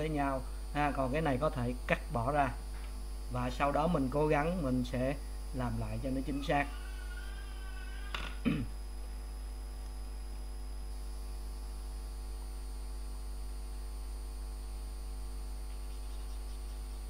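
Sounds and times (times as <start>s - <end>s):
electrical mains hum: 0.0s - 17.0s
faint high-pitched whine: 0.0s - 17.0s.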